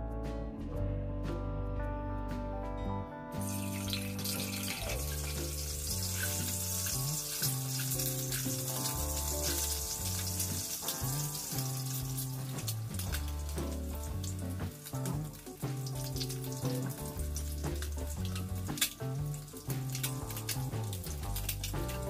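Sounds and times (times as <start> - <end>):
background music: 0.0 - 22.0
eggs sizzling in hot oil: 3.4 - 22.0.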